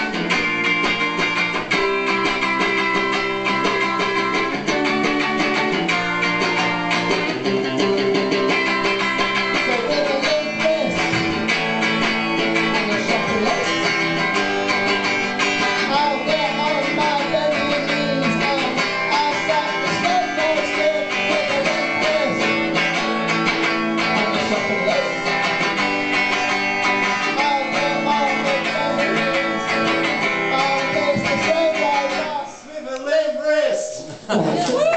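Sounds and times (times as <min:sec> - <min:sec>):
guitar strumming and plucking: 0:00.0 - 0:33.4.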